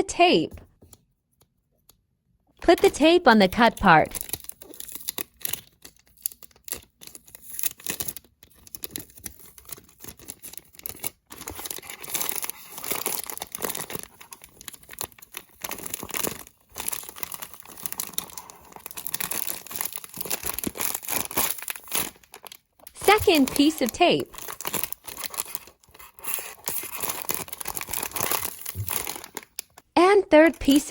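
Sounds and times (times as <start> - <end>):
chip bag crinkling: 2.8 - 29.9, 30.5 - 30.9.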